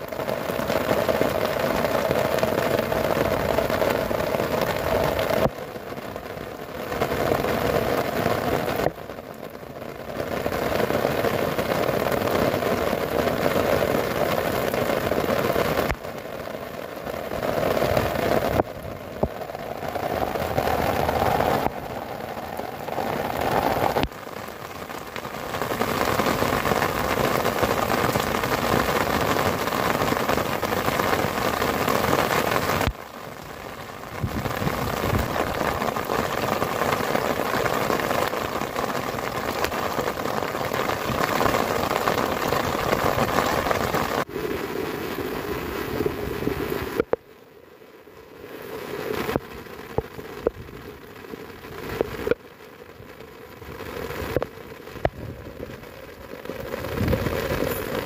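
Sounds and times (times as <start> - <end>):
heavy rain on grass: 0.0 - 58.0.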